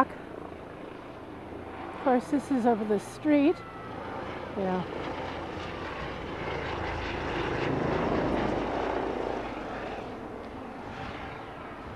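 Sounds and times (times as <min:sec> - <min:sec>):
helicopter passing overhead: 0:00.0 - 0:11.9.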